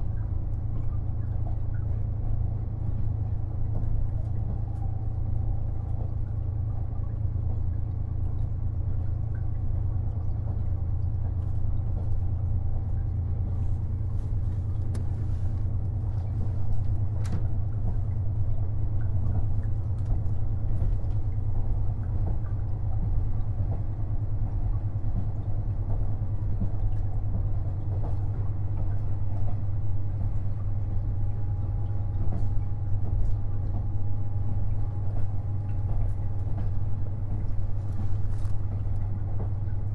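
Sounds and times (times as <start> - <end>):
diesel railcar droning: 0.0 - 39.9.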